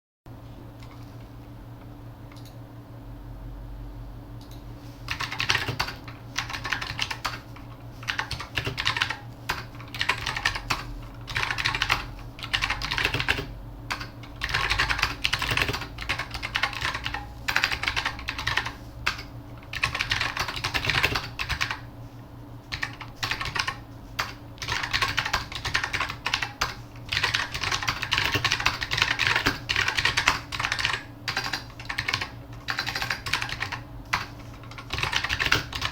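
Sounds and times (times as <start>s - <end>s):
mechanical keyboard typing: 4.4s - 21.8s, 22.7s - 35.9s.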